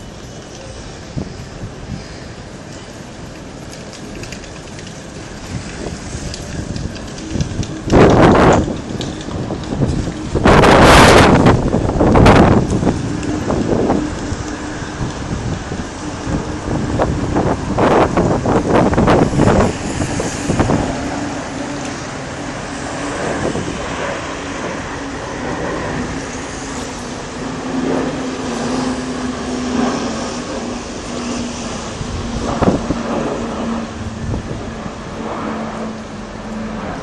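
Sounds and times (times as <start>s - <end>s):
aircraft engine rumble overhead: 0.0s - 37.0s.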